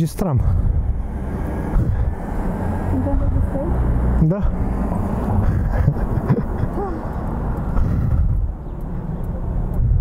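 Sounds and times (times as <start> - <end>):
rumble of cars going by: 0.0 - 10.0.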